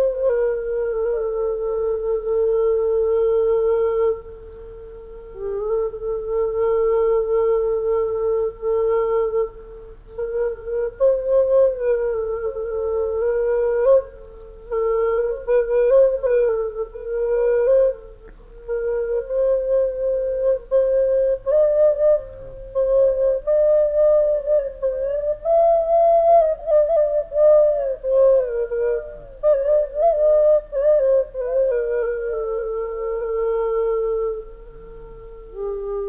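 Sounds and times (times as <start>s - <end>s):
wind instrument melody: 0.0s - 36.0s.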